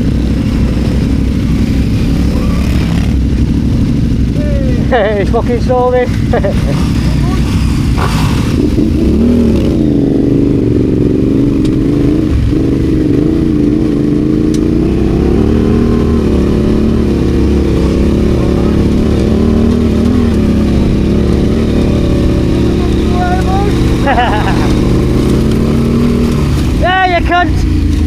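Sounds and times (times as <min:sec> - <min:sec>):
low rumble: 0:00.0 - 0:28.0
motorcycle engine revving: 0:00.0 - 0:28.0.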